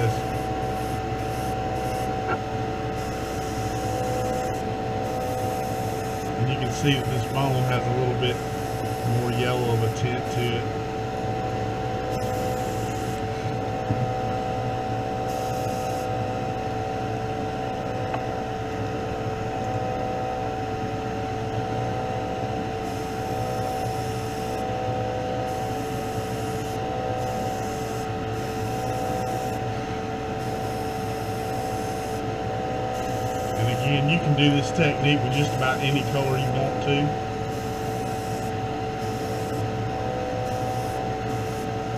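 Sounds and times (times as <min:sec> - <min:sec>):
exhaust fan droning: 0:00.0 - 0:41.9.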